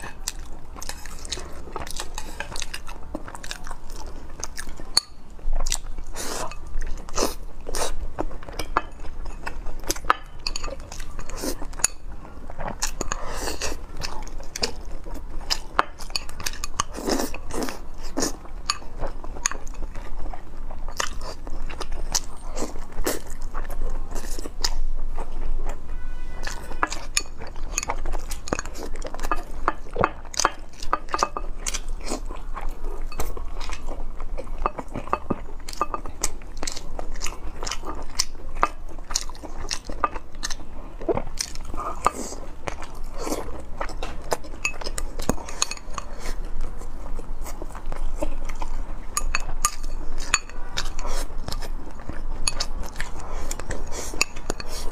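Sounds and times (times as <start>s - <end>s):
person chewing meat: 0.0s - 54.9s.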